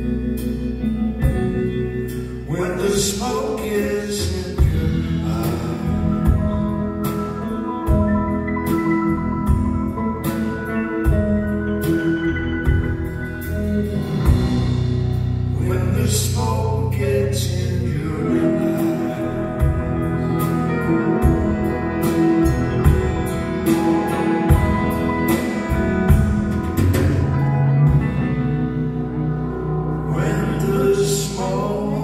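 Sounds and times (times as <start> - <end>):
electric and acoustic guitars: 0.0 - 32.0.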